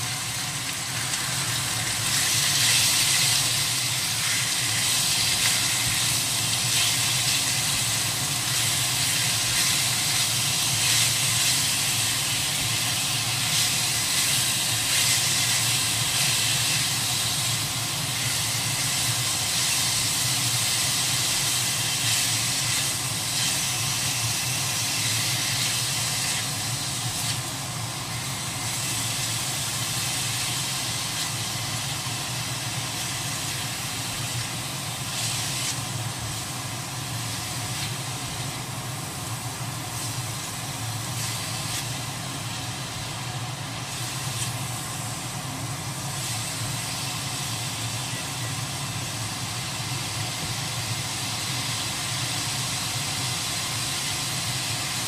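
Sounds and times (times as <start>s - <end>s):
squid sizzling in a wok: 0.0s - 55.0s.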